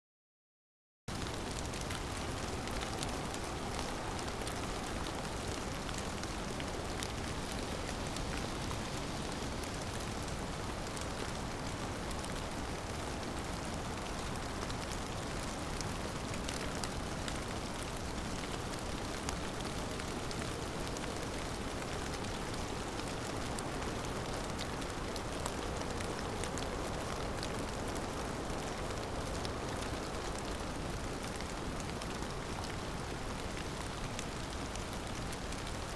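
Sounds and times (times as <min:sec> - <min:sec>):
heavy rain: 0:01.1 - 0:35.9.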